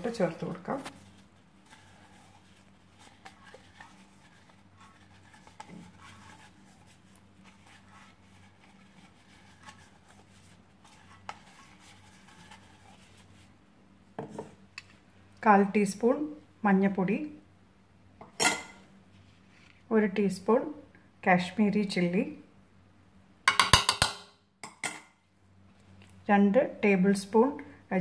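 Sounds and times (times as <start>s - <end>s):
faint steady low hum: 0.0s - 28.0s.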